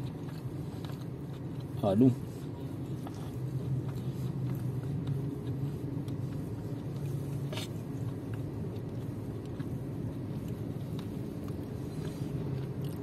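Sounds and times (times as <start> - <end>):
low rumble of vehicles: 0.0 - 13.0.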